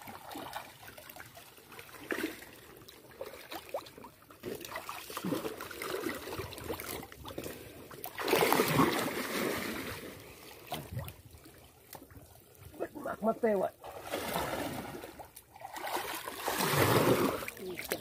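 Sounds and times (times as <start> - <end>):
water splashing and dripping: 0.0 - 12.9, 13.8 - 18.0.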